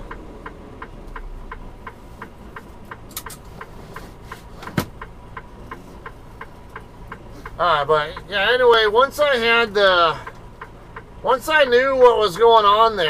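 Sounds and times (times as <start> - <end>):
turn-signal flasher ticking: 0.0 - 3.7, 4.9 - 13.0
truck engine humming: 0.0 - 13.0.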